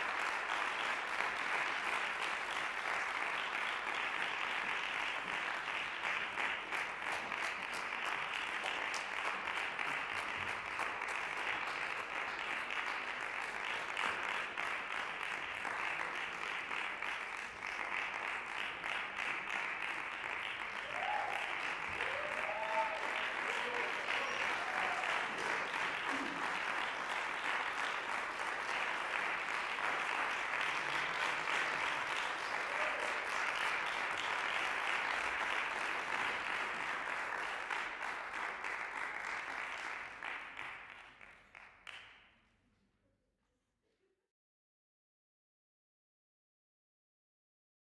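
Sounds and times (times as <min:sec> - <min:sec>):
audience applauding: 0:00.0 - 0:42.2.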